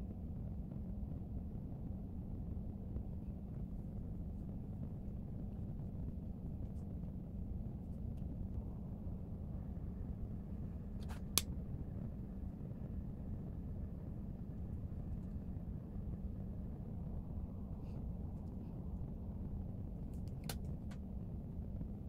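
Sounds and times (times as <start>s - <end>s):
faint hum: 0.0s - 22.0s
low rumbling background noise: 0.0s - 22.0s.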